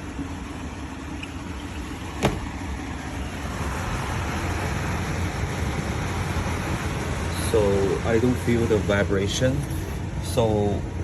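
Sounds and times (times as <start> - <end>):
air conditioner blowing air: 0.0 - 11.0.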